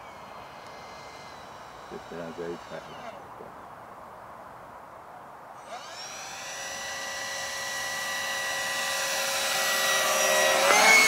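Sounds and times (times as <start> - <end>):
electric ducted fans whining: 0.0 - 3.9, 5.6 - 11.0.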